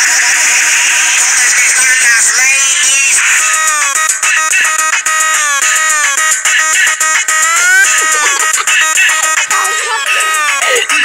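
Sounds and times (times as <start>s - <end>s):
buzzy synthesized melody: 0.0s - 11.0s
fast steady dance beat: 0.0s - 11.0s.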